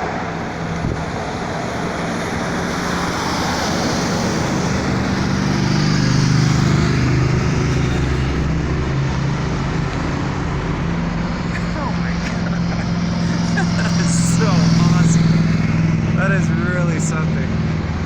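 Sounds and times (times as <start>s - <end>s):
car engine hum: 0.0s - 18.0s
road noise: 0.0s - 18.0s.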